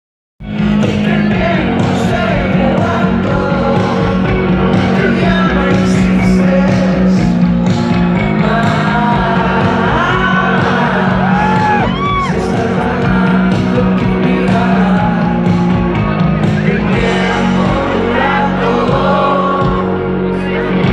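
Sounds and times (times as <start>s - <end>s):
live rock band: 0.4s - 20.9s
person singing: 0.8s - 7.4s, 8.3s - 15.6s, 16.4s - 20.9s.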